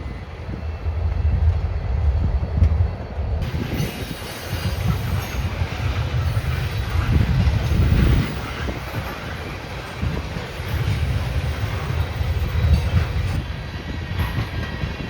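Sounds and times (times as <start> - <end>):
freight train rumbling past: 0.0 - 15.0
wheel and rail noise: 0.0 - 15.0.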